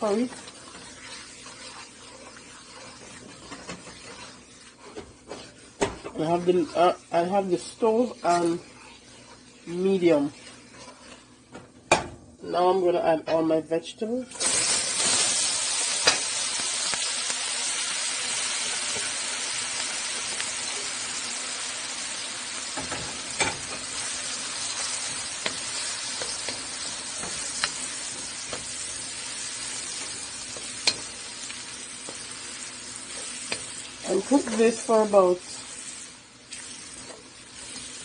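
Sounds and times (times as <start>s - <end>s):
vegetables sizzling in oil: 0.0s - 11.3s, 14.3s - 38.0s.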